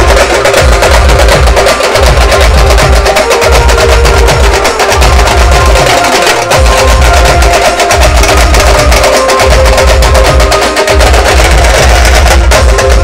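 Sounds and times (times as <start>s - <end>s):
loud music with pulsing bass: 0.0s - 13.0s
rapid drum strokes: 0.0s - 13.0s.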